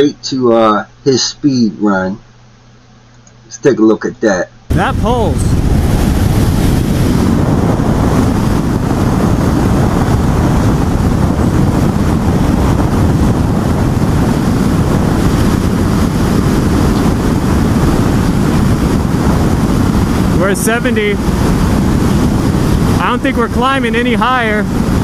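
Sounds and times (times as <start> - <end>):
wind rushing over microphone: 4.7 - 25.0.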